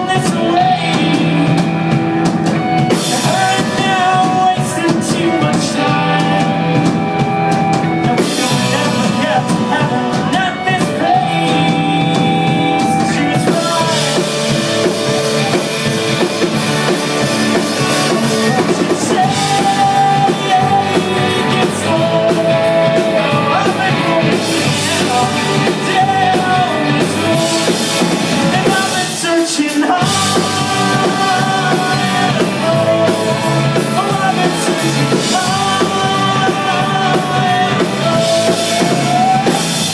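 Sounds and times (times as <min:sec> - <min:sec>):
person singing: 0:00.0 - 0:39.9
rock song with drums and guitar: 0:00.0 - 0:39.9.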